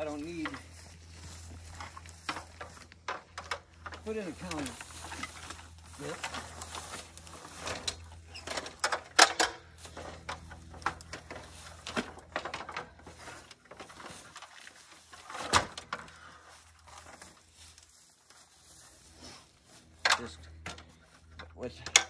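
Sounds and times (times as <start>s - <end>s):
low hum: 0.0s - 21.6s.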